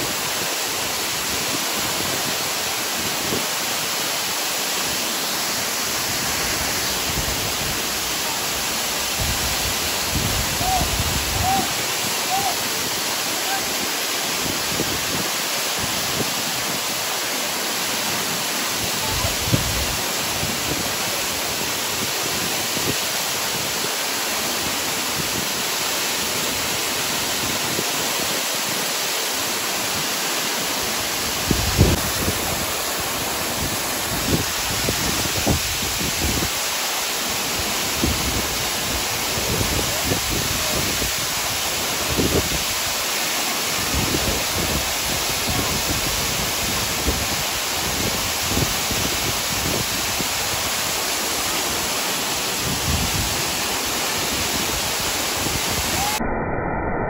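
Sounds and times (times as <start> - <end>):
waterfall rushing: 0.0 - 56.3.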